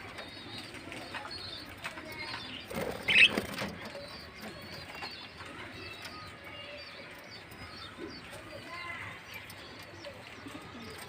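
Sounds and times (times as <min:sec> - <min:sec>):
lovebirds chattering: 0:00.0 - 0:11.0.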